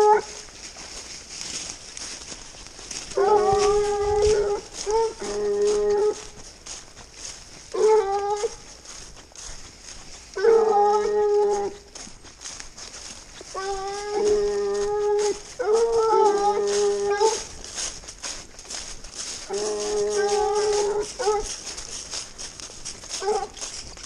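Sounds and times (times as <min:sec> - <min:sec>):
hounds baying: 0:02.9 - 0:06.4, 0:07.2 - 0:12.1, 0:13.0 - 0:24.0.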